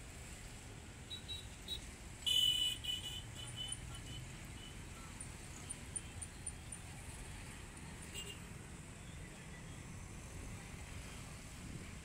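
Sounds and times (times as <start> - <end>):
low traffic rumble: 0.0 - 12.0.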